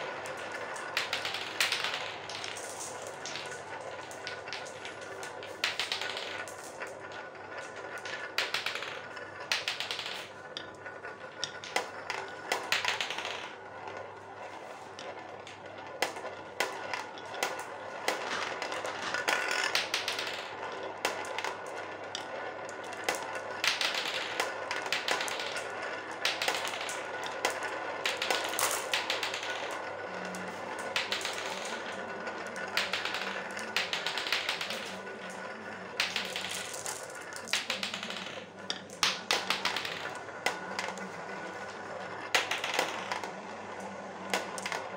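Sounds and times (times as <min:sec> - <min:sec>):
marbles clicking together: 0:00.0 - 0:44.9
marbles rolling in plastic bowl: 0:00.0 - 0:44.9.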